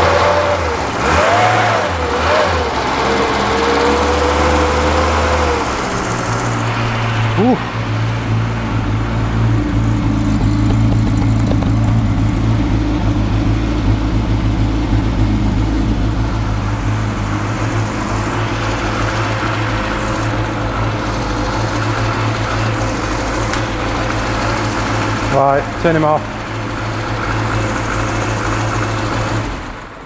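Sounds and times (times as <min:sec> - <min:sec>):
petrol engine idling: 0:01.9 - 0:30.0.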